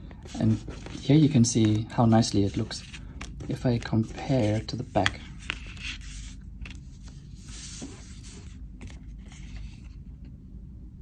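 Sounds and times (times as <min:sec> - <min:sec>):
cards scraping on wooden table: 0:00.2 - 0:10.0.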